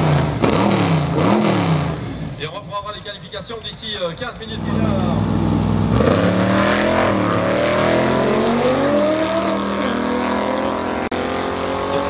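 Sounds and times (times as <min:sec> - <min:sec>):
drag cars accelerating: 0:00.0 - 0:02.3, 0:04.6 - 0:12.0.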